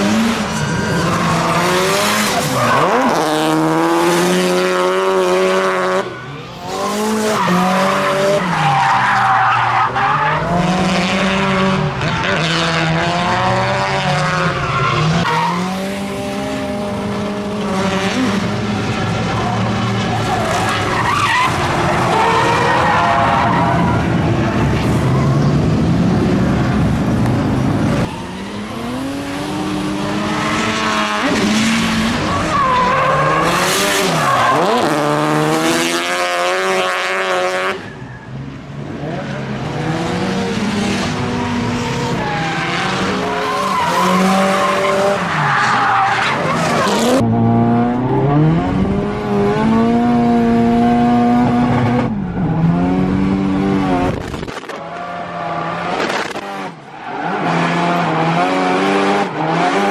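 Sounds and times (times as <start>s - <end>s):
car engine revving: 0.0s - 37.8s, 38.8s - 59.9s.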